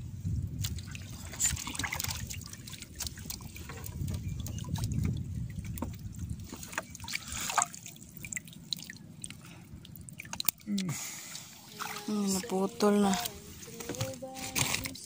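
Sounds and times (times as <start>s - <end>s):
seawater splashing and dripping: 0.5s - 15.0s.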